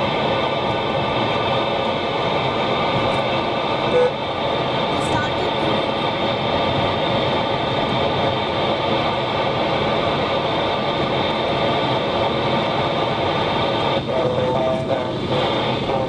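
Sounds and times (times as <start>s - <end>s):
car road noise: 0.0s - 16.0s
radio receiver static hiss: 1.8s - 16.0s.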